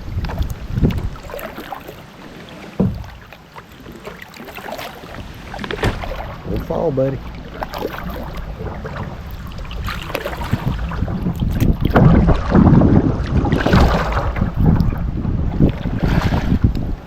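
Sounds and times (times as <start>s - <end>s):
wind buffeting microphone: 0.0s - 1.9s, 5.1s - 17.0s
paddle strokes splashing: 0.0s - 17.0s
water sloshing: 0.0s - 17.0s.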